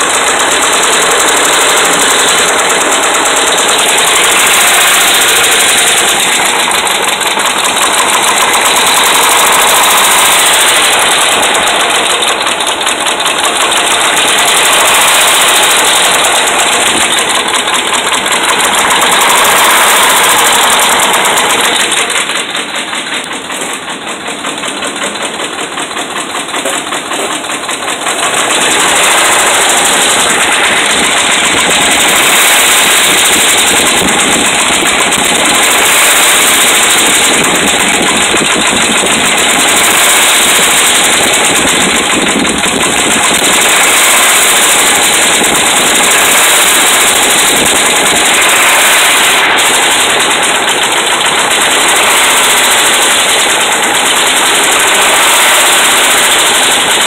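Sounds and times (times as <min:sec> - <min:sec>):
engine running with rapid knocking: 0:00.0 - 0:57.0.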